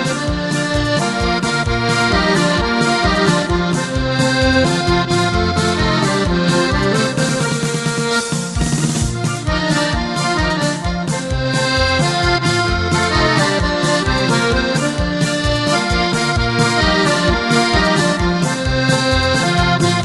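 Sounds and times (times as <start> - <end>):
instrumental music with beat: 0.0 - 20.0.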